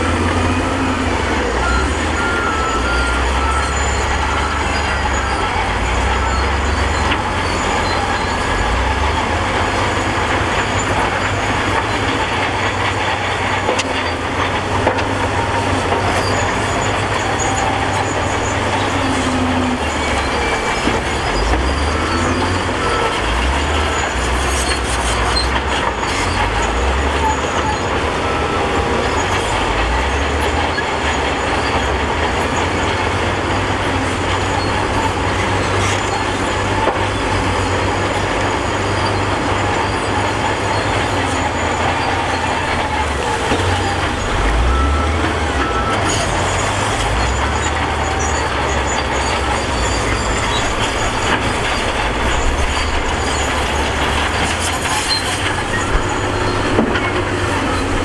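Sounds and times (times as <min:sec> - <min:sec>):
diesel engine rumbling: 0:00.0 - 0:58.0
loader scooping rock: 0:00.0 - 0:58.0.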